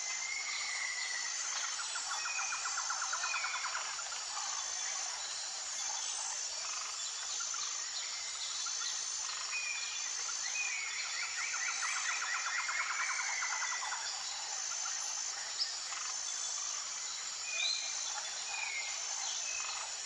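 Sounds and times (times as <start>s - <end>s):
insects and frogs calling: 0.0s - 20.0s.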